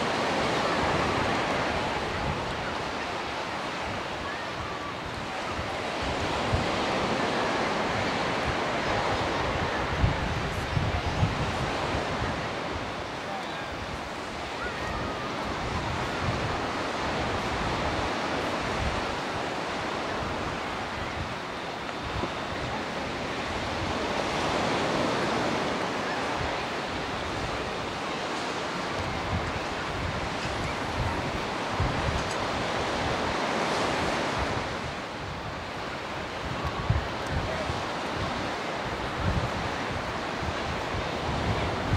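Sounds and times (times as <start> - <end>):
sea surf rushing: 0.0 - 41.9
wind buffeting microphone: 0.0 - 41.9.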